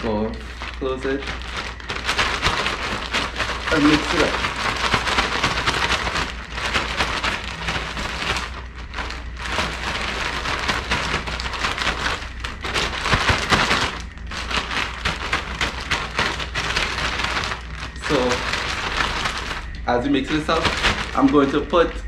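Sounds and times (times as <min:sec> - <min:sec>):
plastic bag crinkling while shaken: 0:00.0 - 0:22.0.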